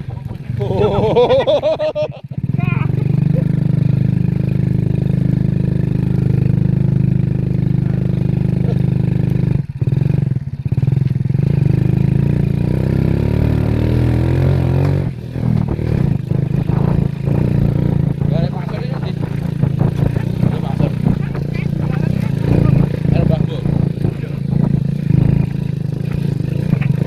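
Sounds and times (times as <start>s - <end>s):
excavator diesel engine running: 0.0s - 13.4s, 14.0s - 27.0s.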